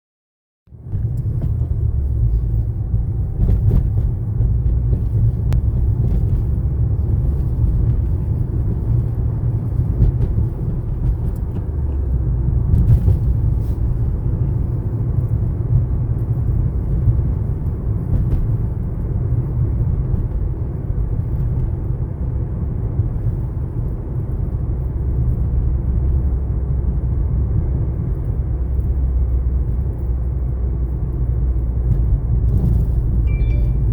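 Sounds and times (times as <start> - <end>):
car road rumble: 0.7 - 33.9.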